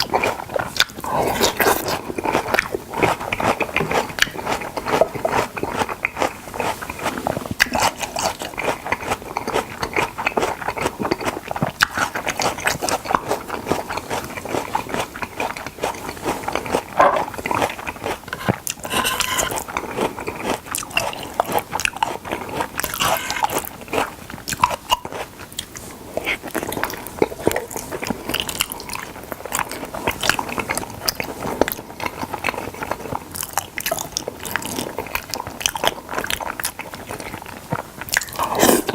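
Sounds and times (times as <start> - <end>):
chewing with wet mouth clicks: 0.0 - 38.9.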